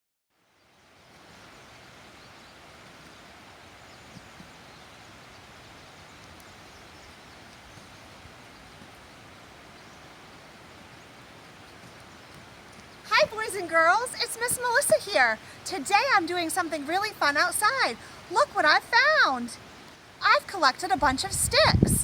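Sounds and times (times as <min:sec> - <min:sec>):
faint outdoor background noise: 0:00.3 - 0:22.0.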